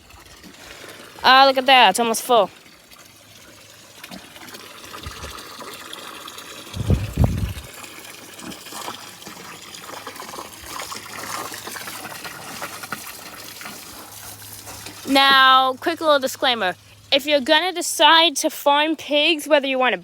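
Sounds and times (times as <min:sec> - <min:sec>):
water trickling into container: 0:00.0 - 0:18.0.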